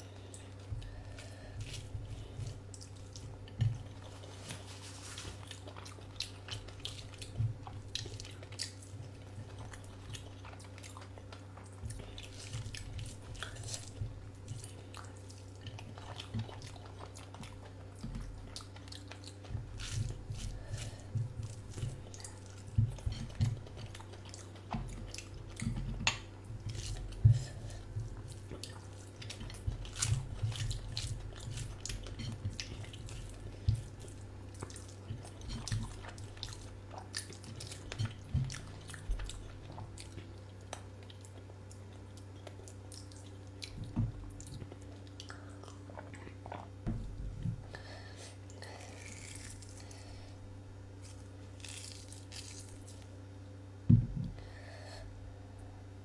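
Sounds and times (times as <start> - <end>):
steady low hum: 0.0 - 56.0
person chewing and biting: 0.4 - 46.7, 48.5 - 50.2, 51.0 - 53.2.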